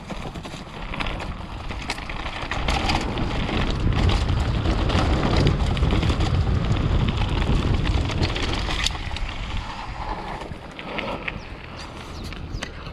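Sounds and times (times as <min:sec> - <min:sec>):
mountain bike rolling over trail: 0:00.0 - 0:12.9
sharp rattling clicks from bike: 0:00.0 - 0:12.9
wind buffeting microphone: 0:00.0 - 0:12.9.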